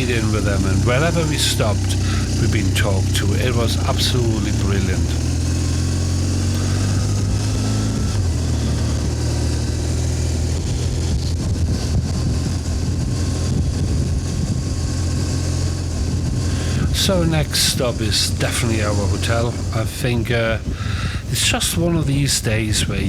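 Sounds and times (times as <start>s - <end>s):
motorcycle engine running: 0.0s - 23.0s
road noise: 0.0s - 23.0s
wind noise: 0.0s - 23.0s.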